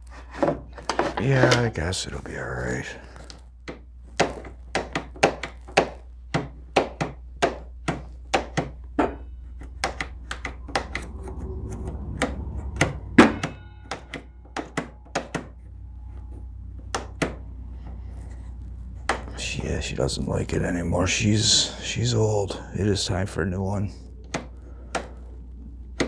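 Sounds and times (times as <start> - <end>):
low electric motor hum: 0.0 - 26.0.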